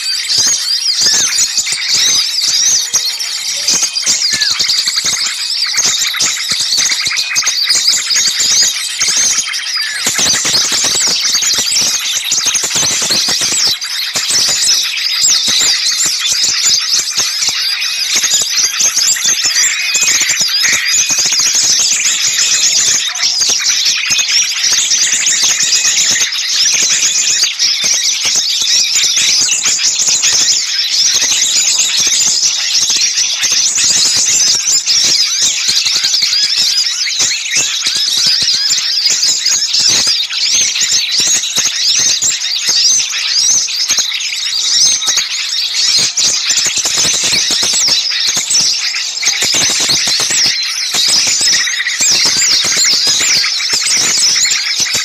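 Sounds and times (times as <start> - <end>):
songbirds chattering: 0.0 - 55.0.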